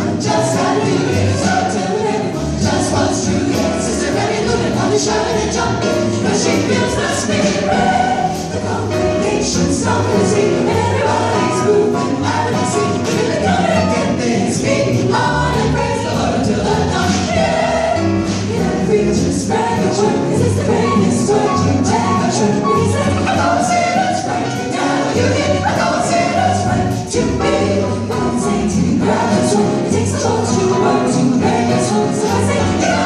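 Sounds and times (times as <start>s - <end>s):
band playing: 0.0s - 33.0s
vocal group singing in harmony: 0.0s - 33.0s.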